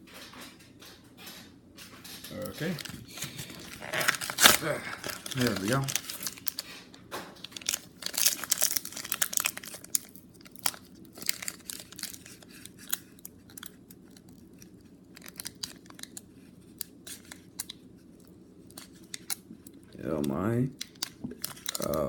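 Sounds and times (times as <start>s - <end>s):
foil wrapper crinkling and tearing: 2.4s - 22.0s.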